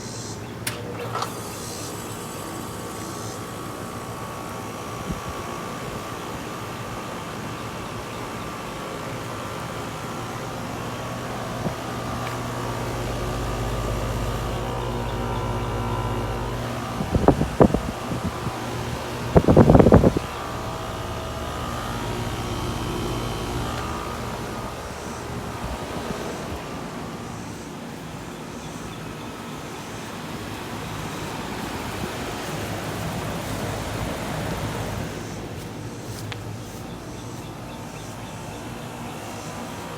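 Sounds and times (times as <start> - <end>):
air conditioner electrical hum: 0.0 - 39.9.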